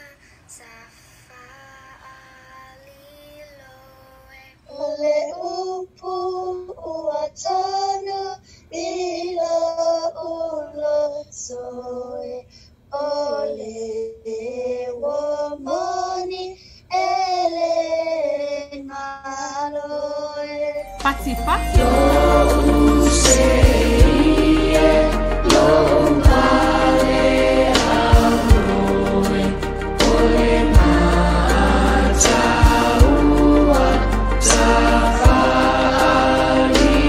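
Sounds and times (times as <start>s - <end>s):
girls singing: 4.7s - 37.0s.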